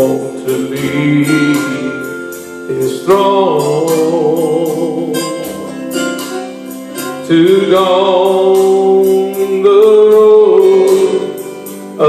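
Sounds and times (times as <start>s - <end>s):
man singing gospel song: 0.0s - 6.0s, 7.0s - 12.0s
instrumental backing with beat: 0.0s - 12.0s.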